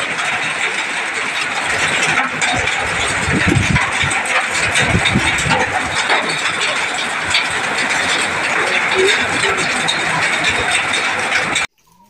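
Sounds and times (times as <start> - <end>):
hail and heavy rain: 0.0 - 11.7
wind gusts on microphone: 0.0 - 11.7.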